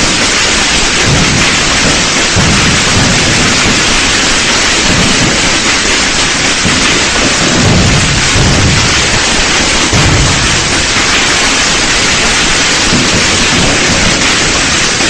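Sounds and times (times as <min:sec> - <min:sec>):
fireworks crackling hiss: 0:00.0 - 0:15.0
low rolling fireworks booms: 0:00.0 - 0:15.0.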